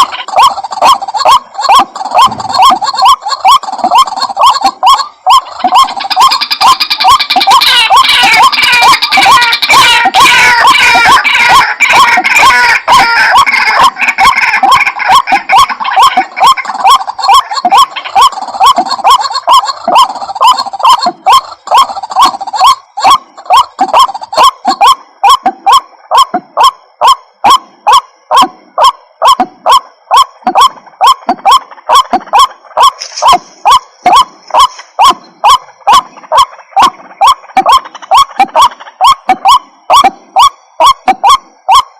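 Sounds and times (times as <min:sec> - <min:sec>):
waterhen harsh calls: 0:00.0 - 0:41.9.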